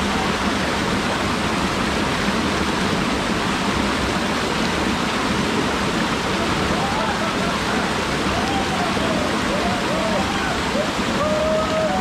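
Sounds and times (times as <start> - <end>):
stream cascading over boulders: 0.0 - 12.0.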